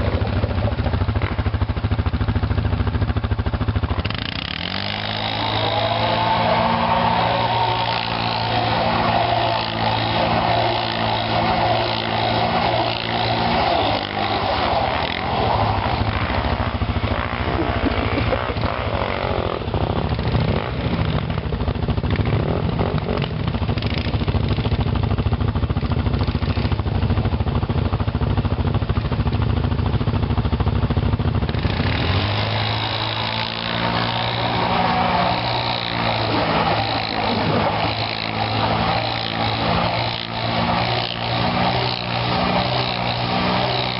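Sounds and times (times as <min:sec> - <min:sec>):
quad bike engine revving: 0:00.0 - 0:43.9.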